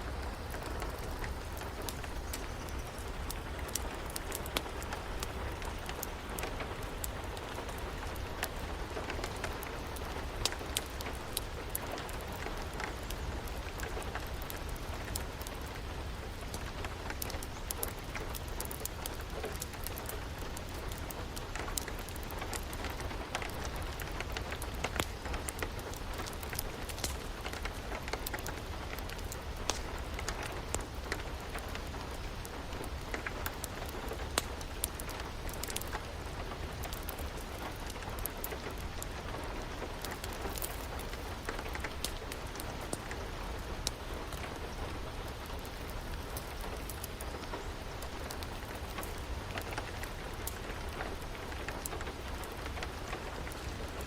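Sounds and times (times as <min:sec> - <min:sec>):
rain hiss: 0:00.0 - 0:54.0
wood fire crackling: 0:00.0 - 0:54.0.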